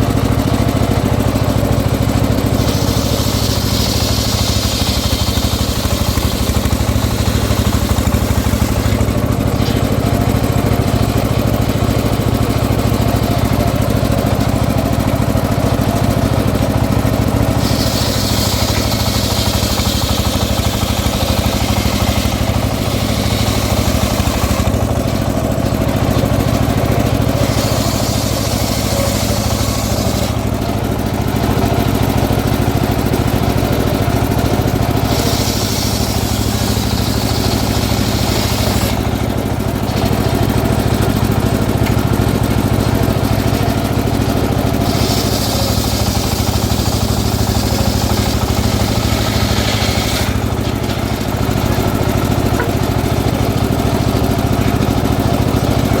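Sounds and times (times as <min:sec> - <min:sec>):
circular saw cutting wood: 0:00.0 - 0:56.0
engine droning: 0:00.0 - 0:56.0.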